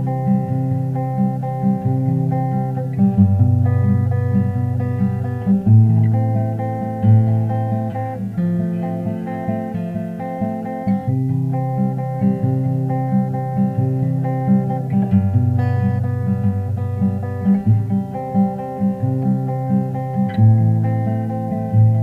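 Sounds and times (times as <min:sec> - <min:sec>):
plucked acoustic guitar: 0:00.0 - 0:22.0.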